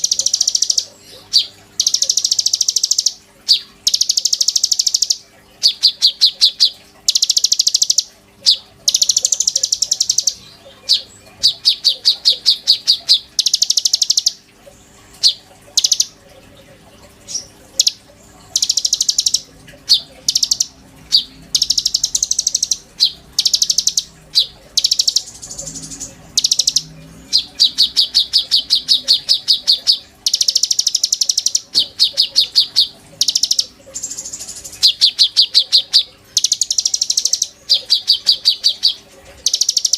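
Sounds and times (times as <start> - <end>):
songbird trilling chirps: 0.0 - 16.2, 17.2 - 39.9.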